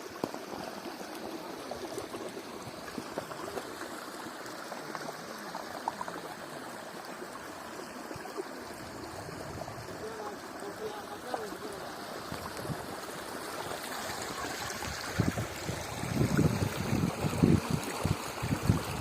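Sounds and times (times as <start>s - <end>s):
running water splashing: 0.0s - 19.0s.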